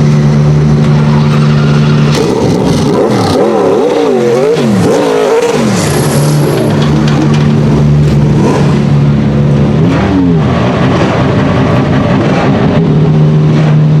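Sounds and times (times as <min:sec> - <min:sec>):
race car engine running loudly: 0:00.0 - 0:14.0.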